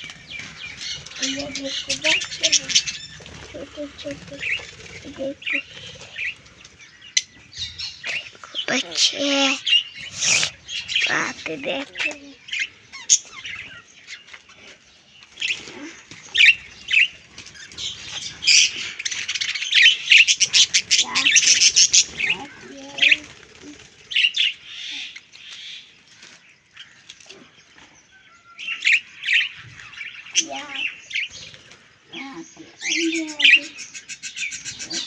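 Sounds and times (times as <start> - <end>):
parrots chirping and squawking: 0.0 - 25.9, 28.5 - 35.0.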